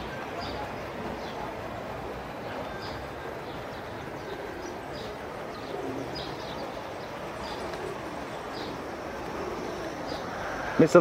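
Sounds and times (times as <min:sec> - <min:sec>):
outdoor background hum: 0:00.0 - 0:11.0.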